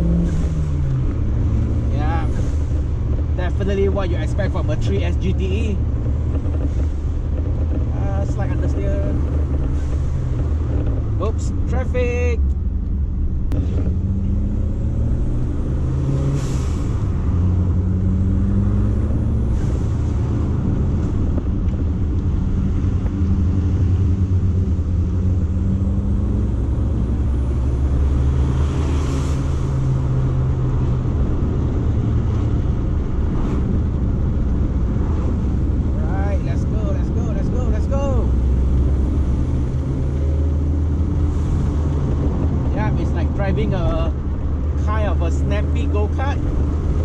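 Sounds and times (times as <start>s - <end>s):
road noise: 0.0s - 47.0s.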